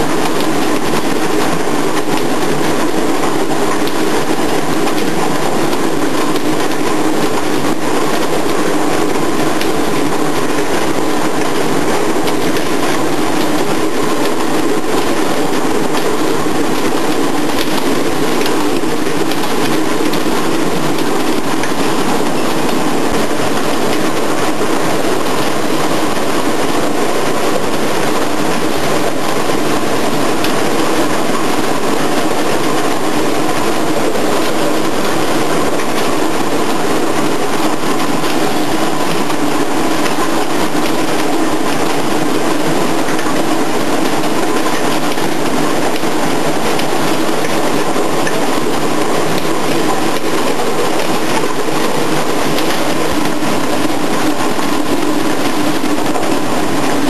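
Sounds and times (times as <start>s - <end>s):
factory machinery rumbling: 0.0s - 57.0s.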